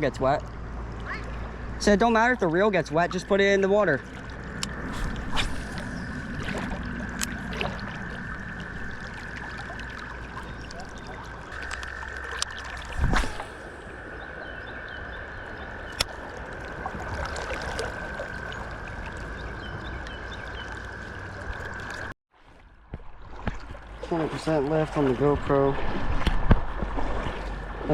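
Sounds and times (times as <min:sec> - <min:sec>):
creek water running: 0:00.0 - 0:22.1, 0:22.8 - 0:27.9.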